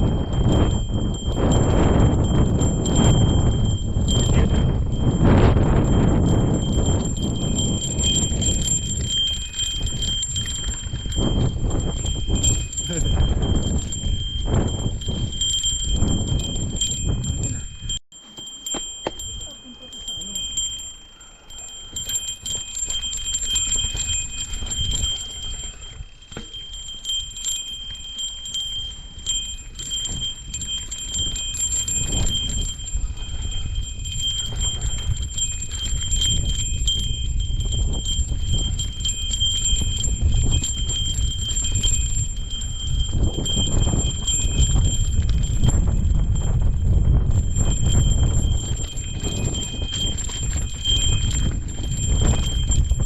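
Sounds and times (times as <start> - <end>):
bikes rumbling handling noise: 0.0 - 53.0
small bell jingling: 0.0 - 53.0.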